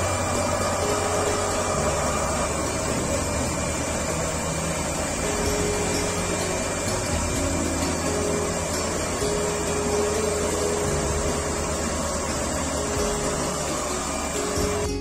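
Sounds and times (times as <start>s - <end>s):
low machine hum: 0.0s - 15.0s
machine whooshing hiss: 0.0s - 15.0s.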